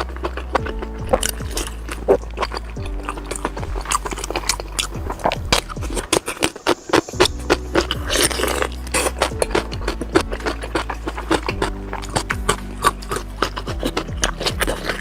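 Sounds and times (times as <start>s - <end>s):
background music with low tones: 0.0s - 15.0s
close-up chewing and crunching: 0.0s - 15.0s.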